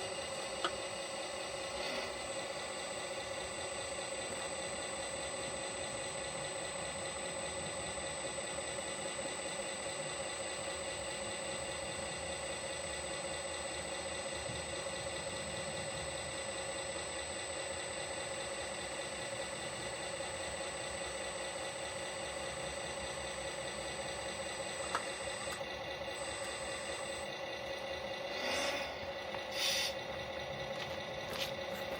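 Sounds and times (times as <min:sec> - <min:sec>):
model truck engine idling drone: 0:00.0 - 0:31.9.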